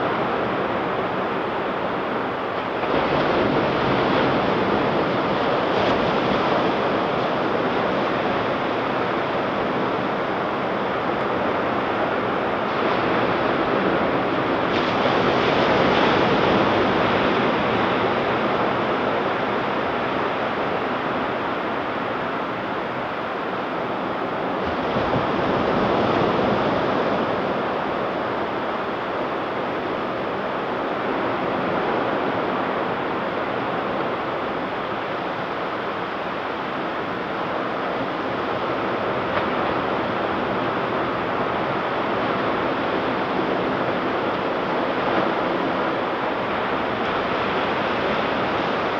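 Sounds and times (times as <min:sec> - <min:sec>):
ocean waves breaking: 0:00.2 - 0:48.9.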